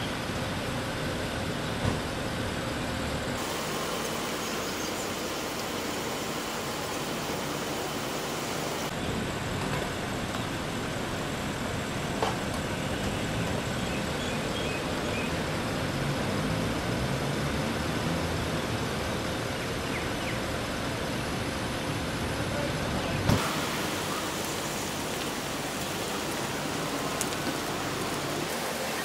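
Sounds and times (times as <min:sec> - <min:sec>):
road traffic hum: 0:00.0 - 0:29.0.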